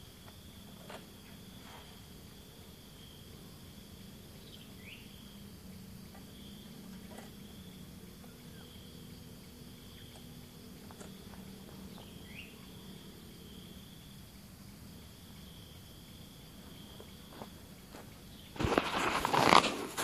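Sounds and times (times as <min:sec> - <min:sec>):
insects trilling: 0:00.0 - 0:20.0
low steady hum: 0:00.0 - 0:20.0.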